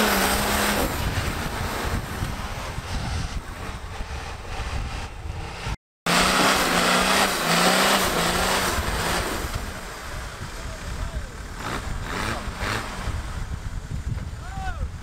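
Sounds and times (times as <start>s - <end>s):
rushing noise: 0.0s - 13.7s
off-road engine revving: 0.0s - 14.7s.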